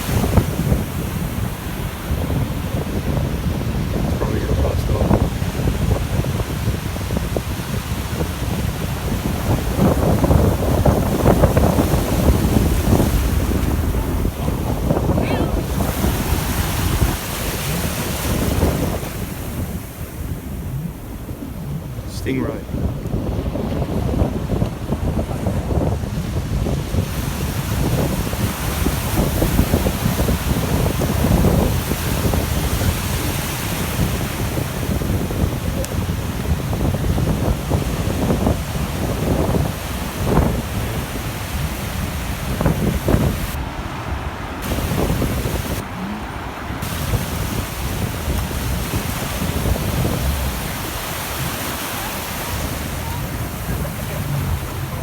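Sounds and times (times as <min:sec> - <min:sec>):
surf on beach: 0:00.0 - 0:55.0
wind buffeting microphone: 0:00.0 - 0:55.0.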